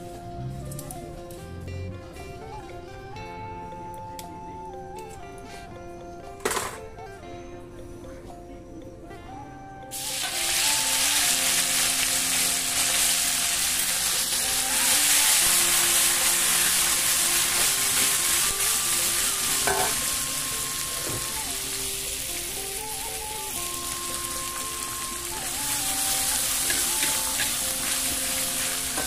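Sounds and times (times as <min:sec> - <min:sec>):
background music: 0:00.0 - 0:29.0.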